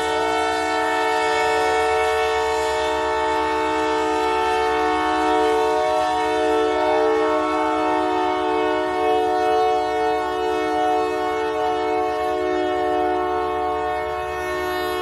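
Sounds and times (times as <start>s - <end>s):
locomotive air horn chord: 0.0s - 15.0s.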